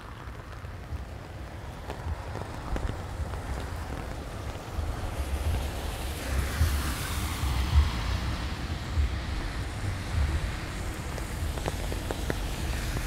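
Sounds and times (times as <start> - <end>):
rain hiss: 0.0 - 13.0
traffic on wet street: 0.0 - 13.0
wind buffeting microphone: 0.0 - 13.0.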